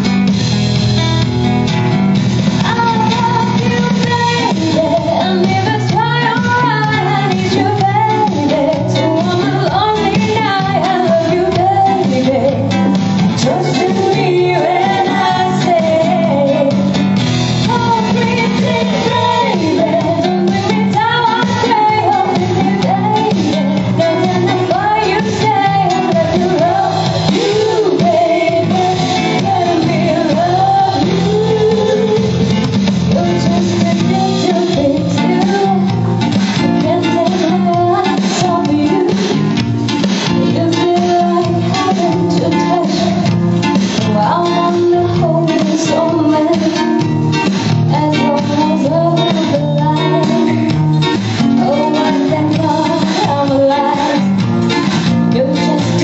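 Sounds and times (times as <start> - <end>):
live pop music with guitar and bass: 0.0 - 56.0.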